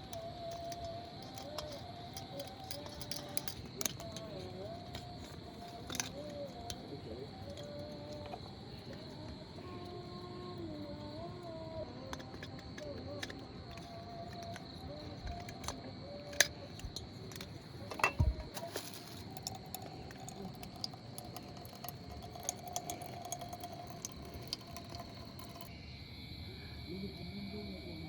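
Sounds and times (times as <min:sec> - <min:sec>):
clicks and handling noises: 0:00.0 - 0:25.7.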